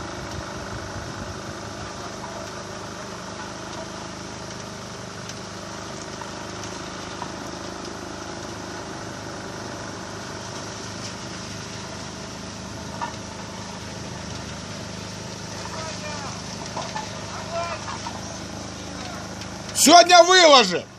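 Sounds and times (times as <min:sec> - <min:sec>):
vehicle engine running: 0:00.0 - 0:20.9.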